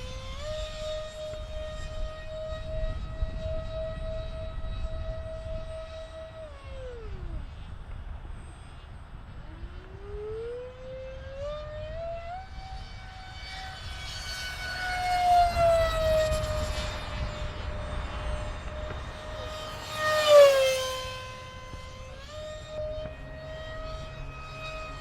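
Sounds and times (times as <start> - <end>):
jet ducted fans whining: 0.0 - 25.0.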